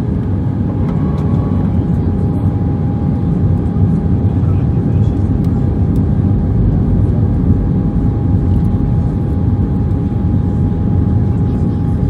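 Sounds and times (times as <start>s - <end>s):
jet engine roar in cabin: 0.0s - 12.0s.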